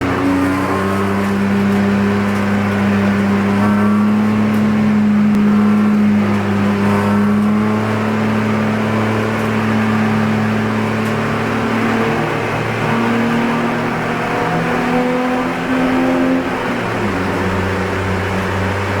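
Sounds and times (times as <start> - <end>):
race car engine pulling hard: 0.0 - 19.0.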